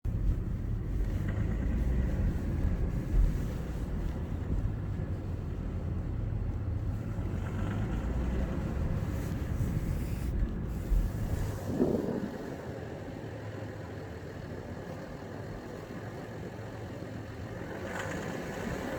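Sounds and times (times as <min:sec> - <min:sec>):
diesel engine low rumble: 0:00.0 - 0:18.9.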